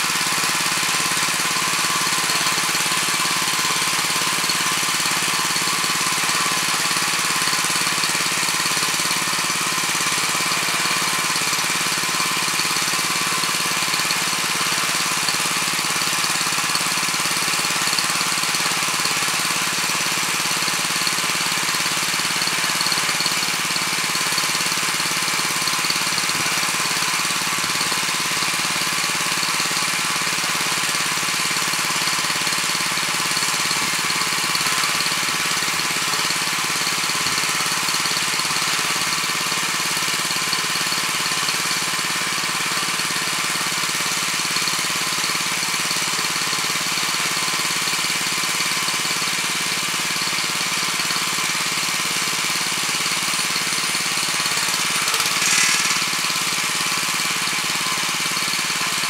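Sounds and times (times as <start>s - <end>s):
tiller engine running: 0.0s - 59.0s.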